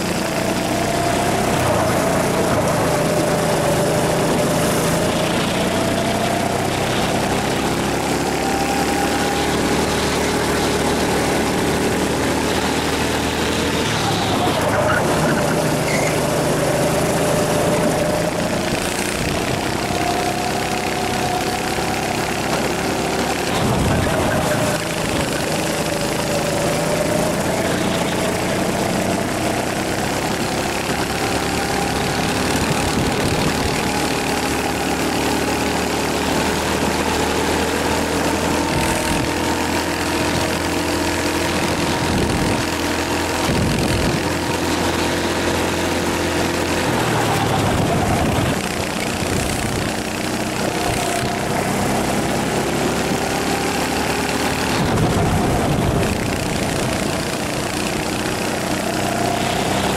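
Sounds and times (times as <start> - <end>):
kart engine running hard: 0.0 - 59.9
wind and road noise: 0.0 - 59.9.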